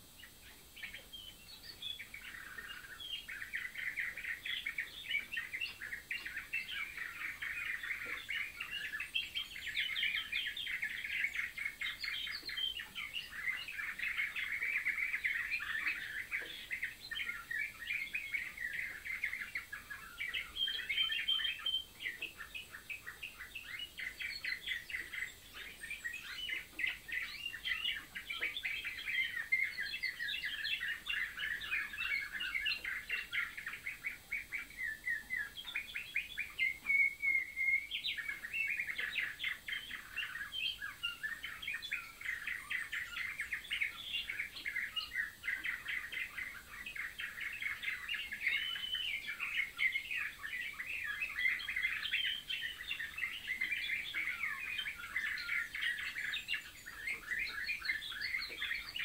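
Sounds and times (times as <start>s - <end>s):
canary trilling and chirping: 0.2s - 59.0s.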